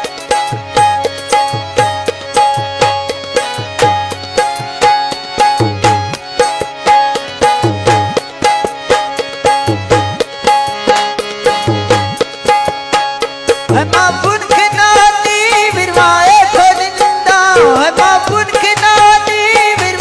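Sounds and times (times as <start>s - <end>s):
held melody notes: 0.0s - 18.8s
hand drum rhythm: 0.0s - 20.0s.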